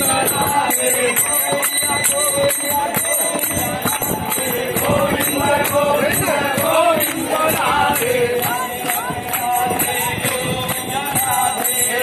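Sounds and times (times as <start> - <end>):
group singing a chant: 0.0 - 12.0
jingling metal percussion: 0.0 - 12.0
hands clapping: 1.2 - 12.0.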